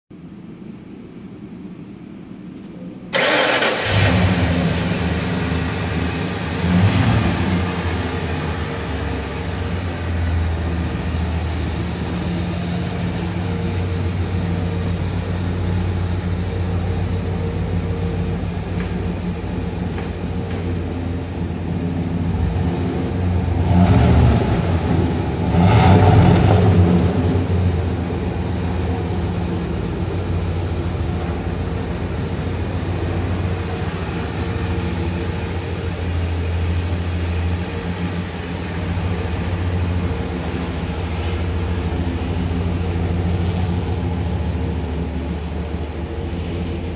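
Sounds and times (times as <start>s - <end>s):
pickup truck engine idling: 3.1s - 46.9s.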